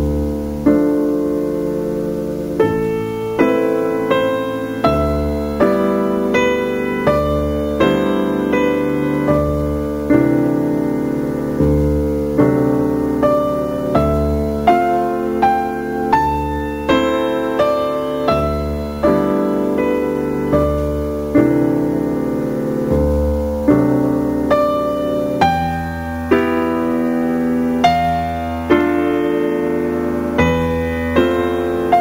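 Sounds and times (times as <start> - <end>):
slow solo piano: 0.0 - 32.0.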